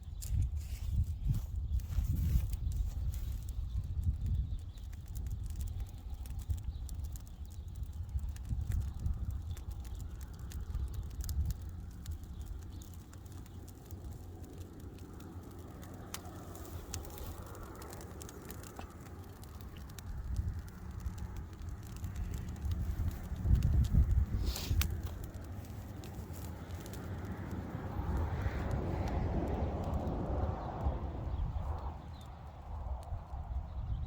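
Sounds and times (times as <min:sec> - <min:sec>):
burning brush crackling: 0:00.0 - 0:34.0
wind buffeting microphone: 0:00.0 - 0:34.0.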